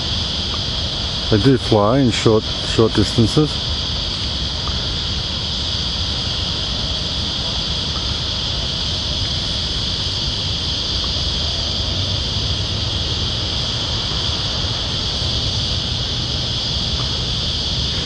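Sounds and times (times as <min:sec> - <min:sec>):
constant low rumble: 0:00.0 - 0:18.0
high-pitched insect chorus: 0:00.0 - 0:18.0.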